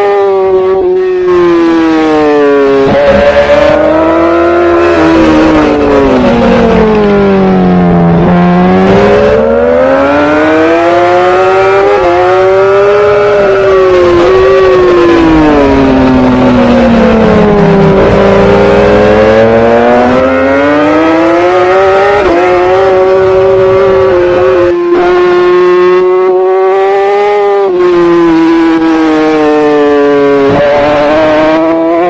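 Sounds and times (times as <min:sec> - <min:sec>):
superbike engine: 0:00.0 - 0:32.0.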